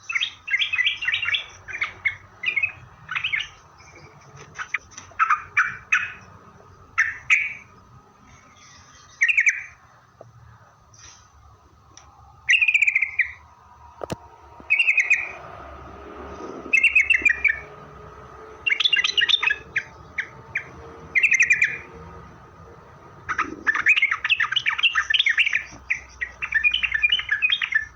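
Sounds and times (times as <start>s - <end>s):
bird singing warbled phrases: 0.0s - 27.9s.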